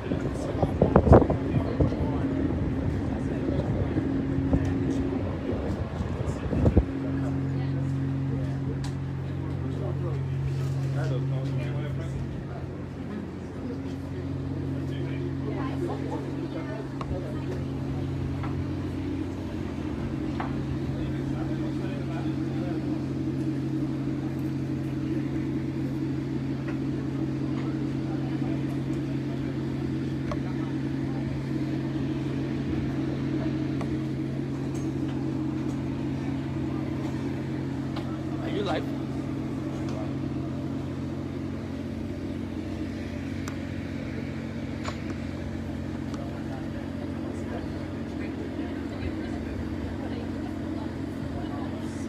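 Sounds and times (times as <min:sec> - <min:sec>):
engine machinery humming: 0:00.0 - 0:52.0.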